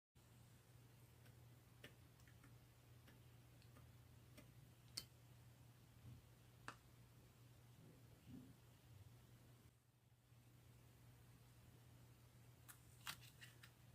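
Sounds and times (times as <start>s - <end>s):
low steady hum: 0.2s - 13.9s.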